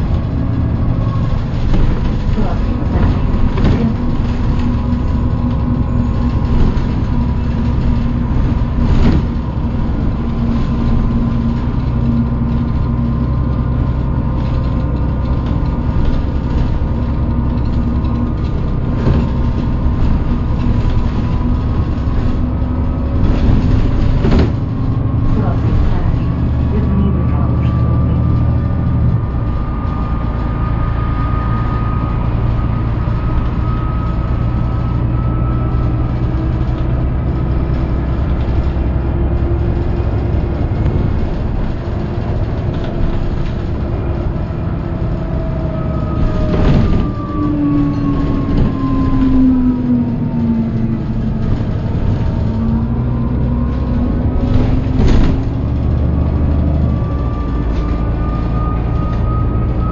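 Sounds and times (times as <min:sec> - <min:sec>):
bus diesel drone: 0:00.0 - 0:59.9
gear whine: 0:00.0 - 0:59.9.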